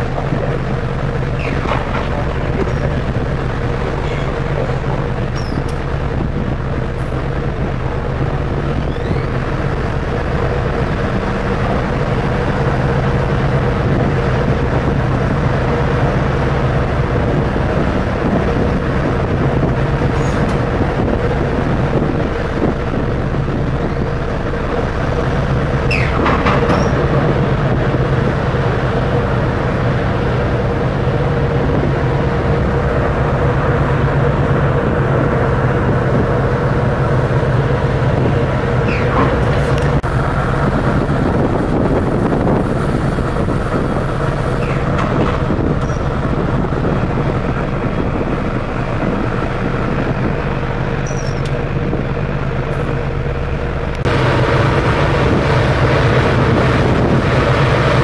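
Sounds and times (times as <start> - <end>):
churned water rushing: 0.0 - 58.0
ship engines droning: 0.0 - 58.0.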